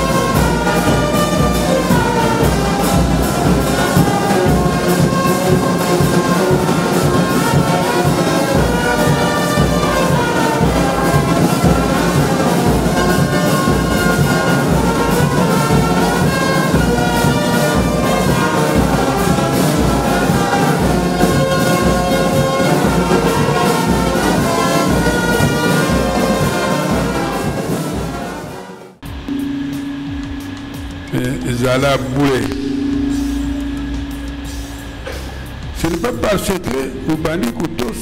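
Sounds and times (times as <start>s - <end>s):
music with steady beat: 0.0s - 36.9s.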